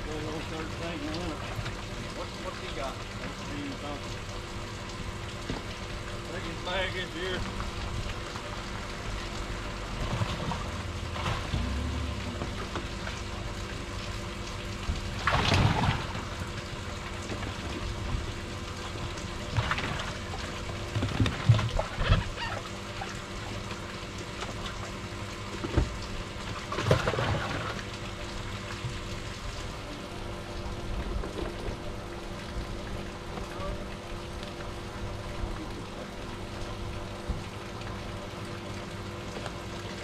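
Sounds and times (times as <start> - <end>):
faint hum: 0.0 - 40.0
water splashing in a tank: 0.0 - 40.0.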